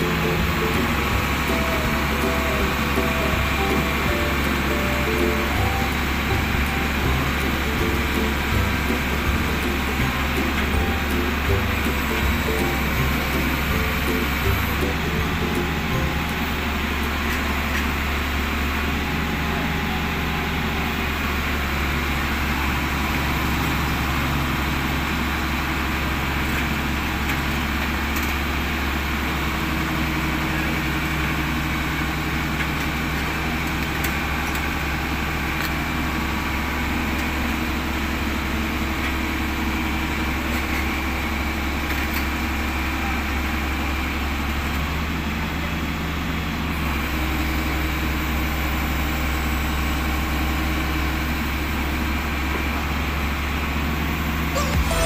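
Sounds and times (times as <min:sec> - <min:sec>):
diesel engine idling: 0:00.0 - 0:54.8.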